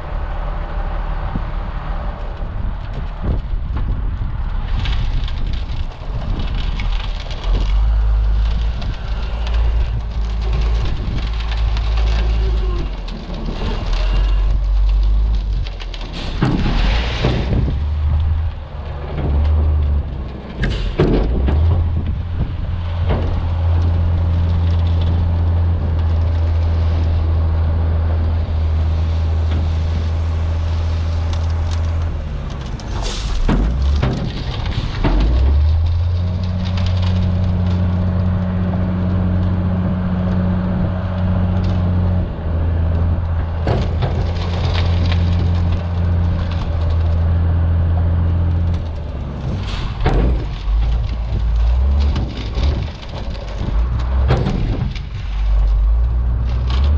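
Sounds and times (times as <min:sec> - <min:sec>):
diesel truck engine running: 0:00.0 - 0:56.9
truck knocks and rattles: 0:00.0 - 0:56.9.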